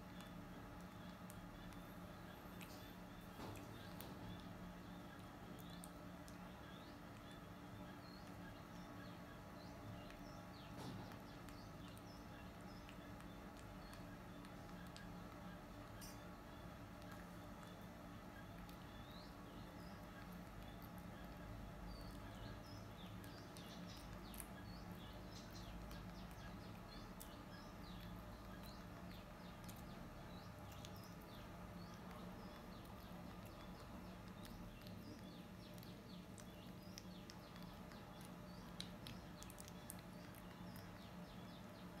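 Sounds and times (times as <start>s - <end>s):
monkey chewing with soft clicks: 0.0s - 41.7s
low steady hum: 0.0s - 42.0s
small high chirps: 0.0s - 42.0s.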